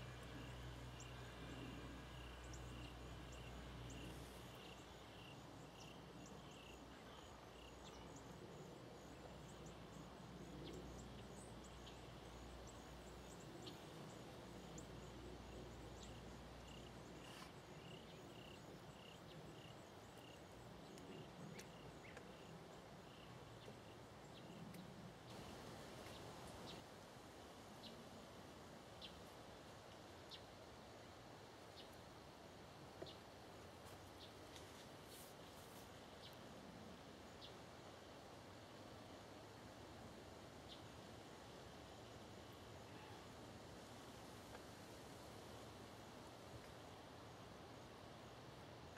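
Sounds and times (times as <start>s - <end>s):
faint insect chirps: 0.0s - 48.9s.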